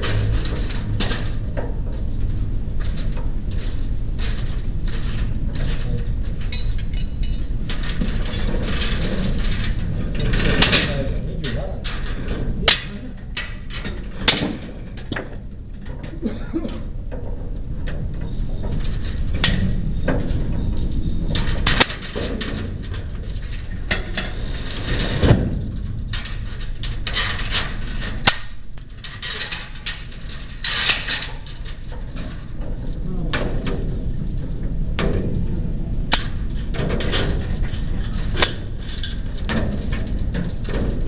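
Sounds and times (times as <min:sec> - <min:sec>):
low rumble: 0:00.0 - 0:41.0.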